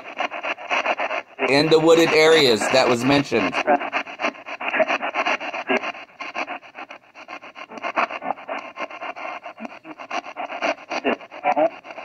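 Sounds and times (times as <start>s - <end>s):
radio static sweeping stations: 0.0s - 12.0s.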